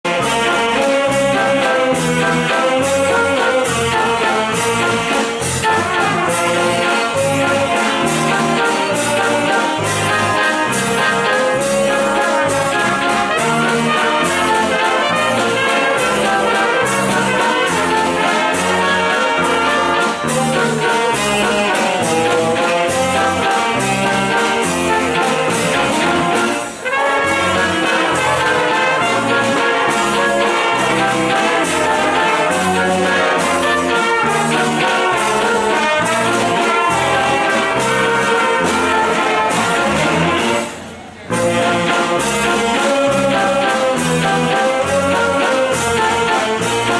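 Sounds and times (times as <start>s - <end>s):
wind band playing: 0.0s - 46.9s.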